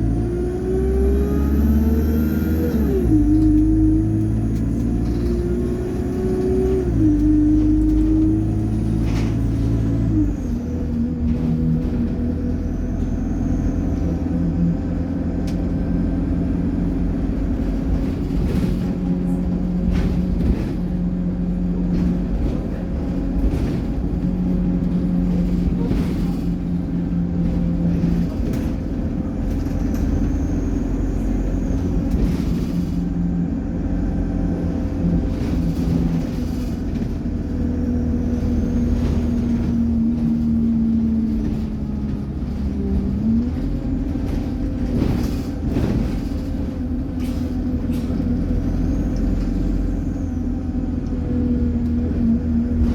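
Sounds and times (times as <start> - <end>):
bus engine drone: 0.0 - 52.9.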